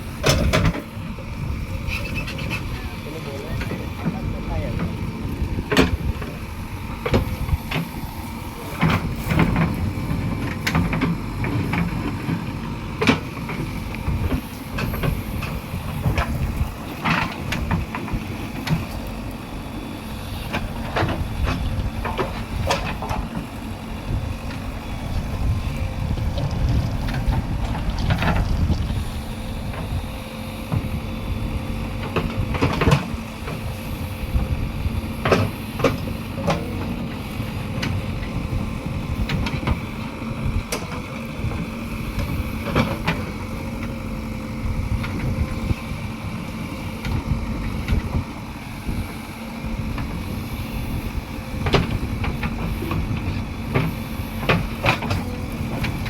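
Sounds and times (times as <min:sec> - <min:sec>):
diesel engine rumbling with whine: 0:00.0 - 0:56.0.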